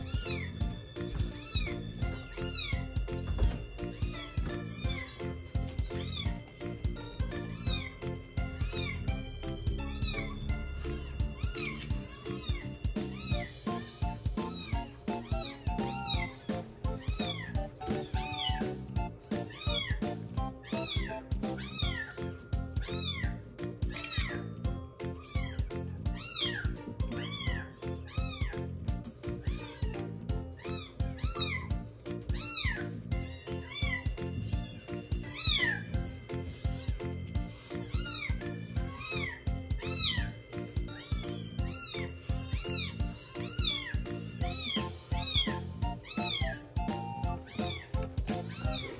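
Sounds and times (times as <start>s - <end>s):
background music: 0.0s - 48.9s.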